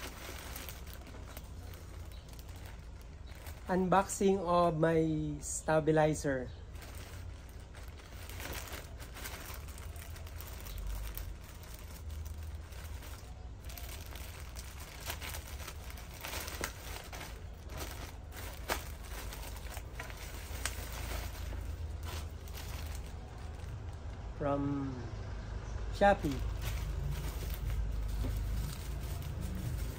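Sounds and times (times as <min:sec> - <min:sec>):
plastic packaging crinkling and tearing: 0:00.0 - 0:04.4, 0:06.4 - 0:24.3, 0:26.2 - 0:29.9.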